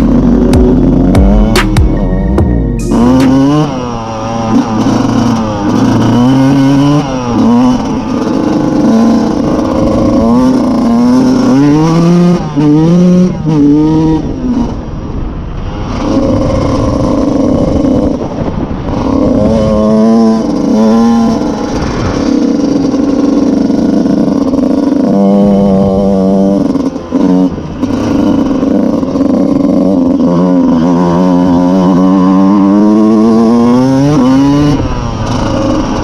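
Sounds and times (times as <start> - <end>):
motocross engine revving: 0.0 - 14.8, 15.9 - 36.0.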